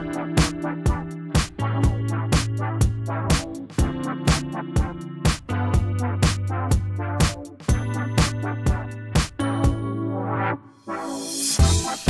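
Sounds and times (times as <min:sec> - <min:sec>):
electronic music with drum beat: 0:00.0 - 0:12.0.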